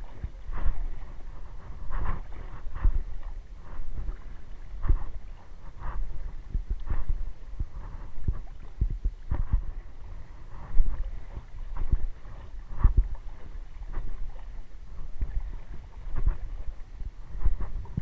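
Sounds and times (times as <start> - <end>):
wading splashes in water: 0.0 - 18.0
wind rumble on microphone: 0.0 - 18.0.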